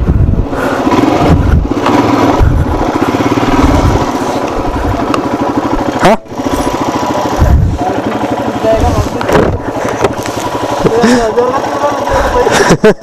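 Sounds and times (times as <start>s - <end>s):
low rumbling from the ride: 0.0s - 13.0s
motorcycle engine running: 0.0s - 13.0s.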